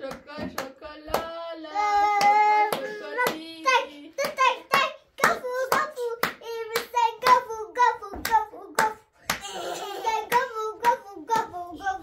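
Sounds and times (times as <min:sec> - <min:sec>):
rhythmic hand claps: 0:00.0 - 0:01.3, 0:02.0 - 0:09.5, 0:10.2 - 0:12.0.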